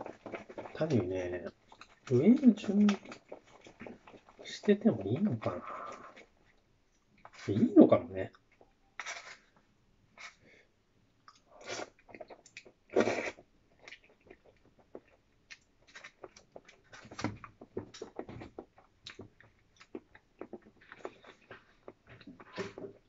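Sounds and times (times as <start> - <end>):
chewing and wet mouth noises: 0.0 - 7.6, 11.2 - 23.0.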